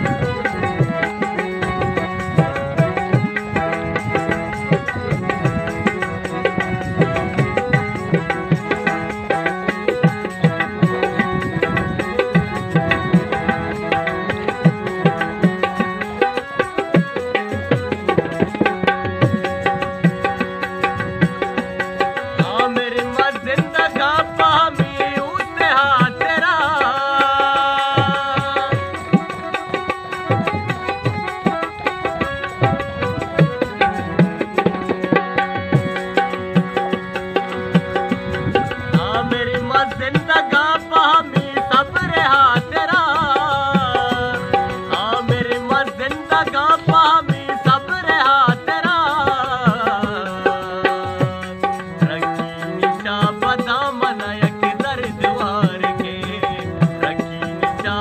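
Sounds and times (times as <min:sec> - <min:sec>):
harmonium melody over drone: 0:00.0 - 0:58.0.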